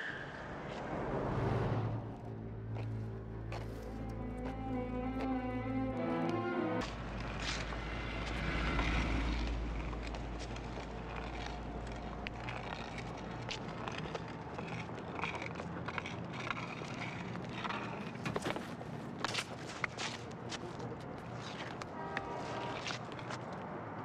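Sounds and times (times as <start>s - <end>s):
street hum: 0.0s - 24.0s
vehicle rumble: 0.0s - 24.0s.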